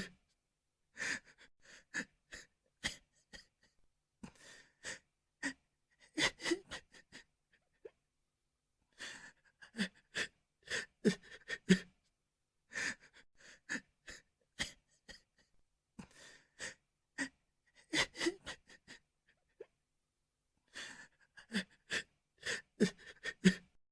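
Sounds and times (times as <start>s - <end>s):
person sobbing: 0.0s - 0.2s, 0.9s - 8.0s, 8.9s - 12.0s, 12.7s - 19.7s, 20.7s - 23.8s.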